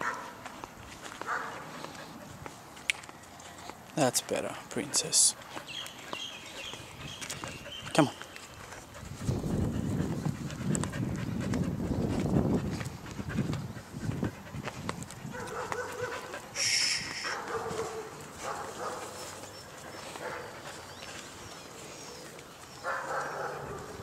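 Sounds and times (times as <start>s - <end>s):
dog panting: 1.0s - 24.0s.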